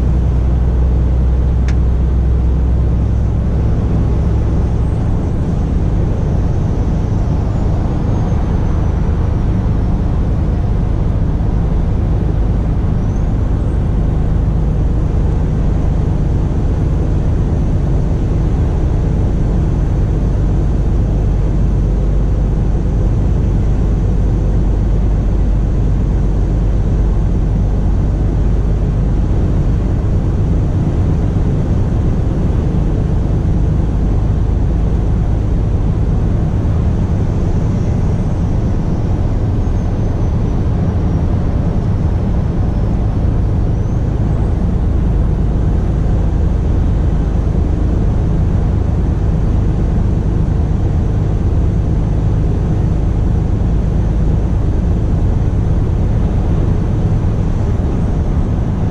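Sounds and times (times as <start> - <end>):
road noise: 0.0 - 58.9
truck diesel engine running: 0.0 - 58.9.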